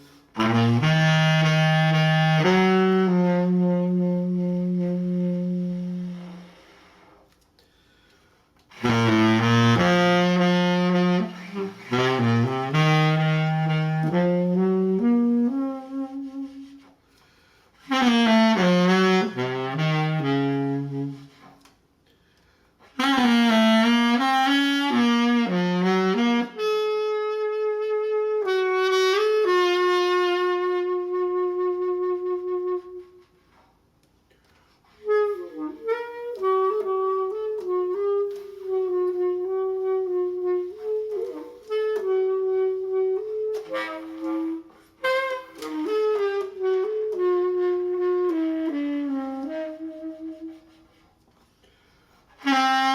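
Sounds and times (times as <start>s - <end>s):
solo saxophone melody: 0.0s - 52.9s.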